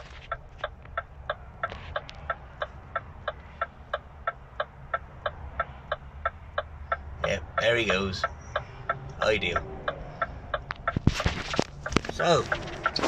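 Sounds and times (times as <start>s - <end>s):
indicator flasher ticking: 0.0s - 10.9s.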